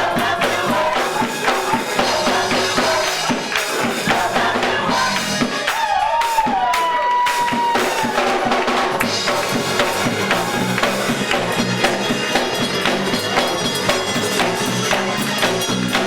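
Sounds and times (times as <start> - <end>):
drum-kit beat: 0.0 - 16.0
gospel band music: 0.0 - 16.0.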